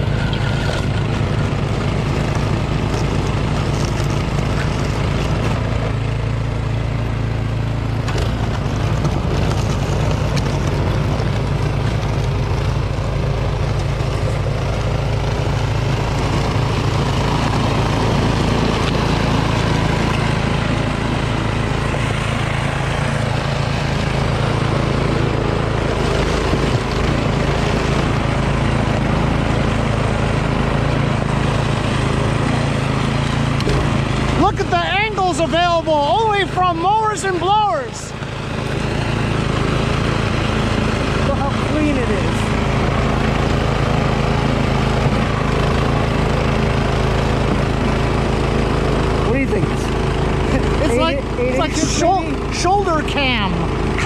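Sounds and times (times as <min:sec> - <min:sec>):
snowblower running: 0:00.0 - 0:54.0.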